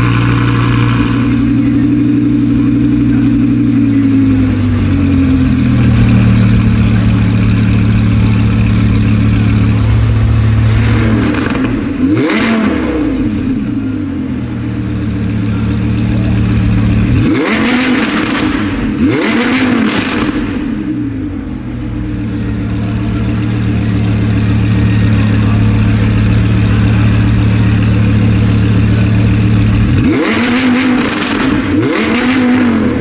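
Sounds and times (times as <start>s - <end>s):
car engine revving and idling: 0.0s - 33.0s.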